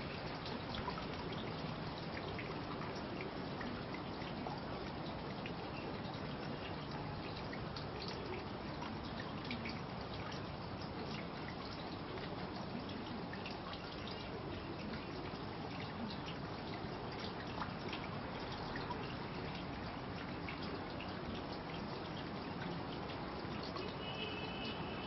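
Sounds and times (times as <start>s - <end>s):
faint water drips: 0.0s - 25.0s
trickling water: 0.0s - 25.0s.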